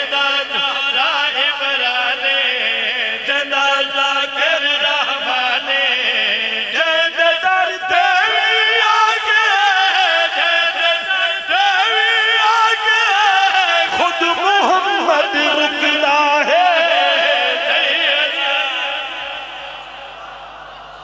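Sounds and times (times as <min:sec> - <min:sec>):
men chanting over loudspeakers: 0:00.0 - 0:21.0.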